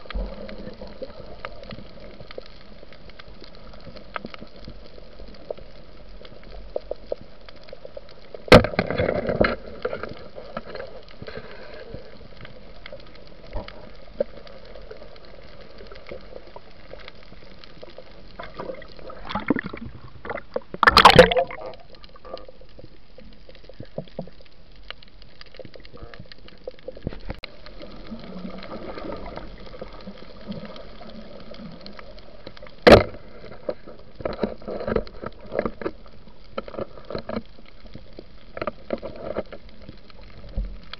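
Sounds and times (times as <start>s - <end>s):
underwater hiss with crackles: 0.0s - 40.9s.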